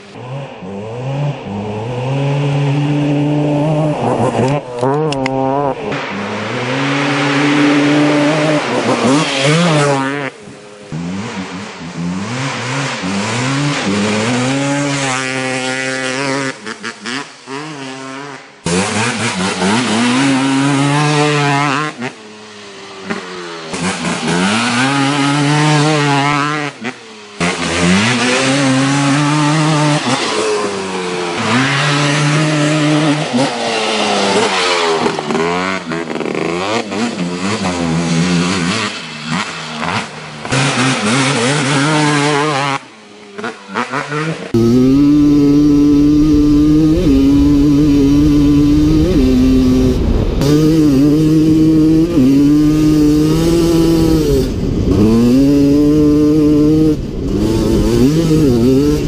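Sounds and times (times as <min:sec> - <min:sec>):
quad engines revving: 0:00.0 - 0:59.0.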